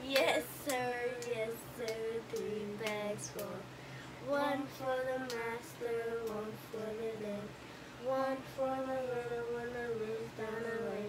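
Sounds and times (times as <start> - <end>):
child and woman singing: 0.0 - 11.0.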